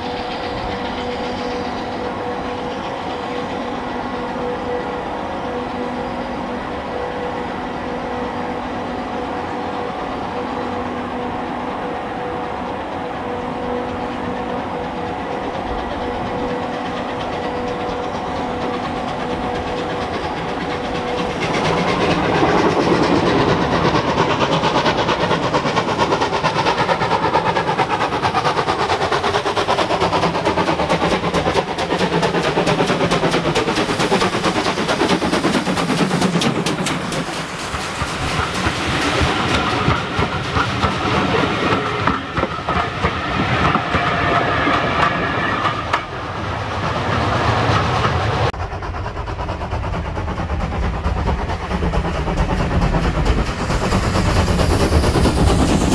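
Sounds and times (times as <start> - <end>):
fast rhythmic train clatter: 0.0 - 55.9
train passing: 0.0 - 55.9.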